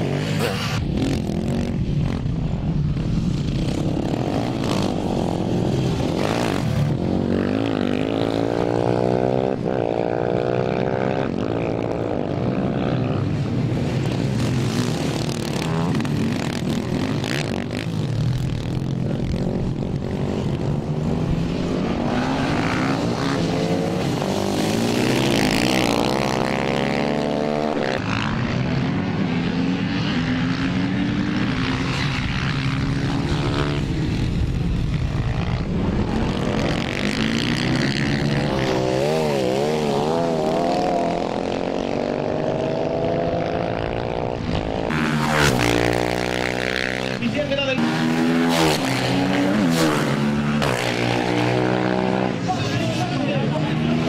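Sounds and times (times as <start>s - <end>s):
small motorcycle engines revving: 0.0s - 54.0s.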